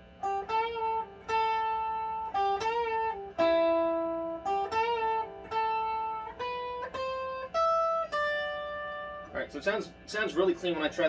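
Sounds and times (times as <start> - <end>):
clean electric guitar lead: 0.0 - 11.0.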